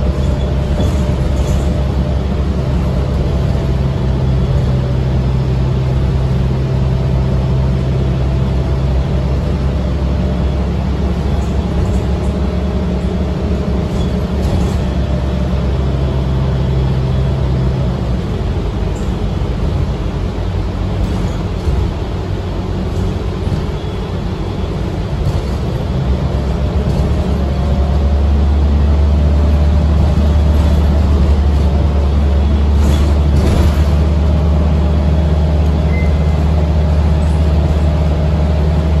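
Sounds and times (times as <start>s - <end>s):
bus engine drone: 0.0s - 39.0s
road noise: 0.0s - 39.0s.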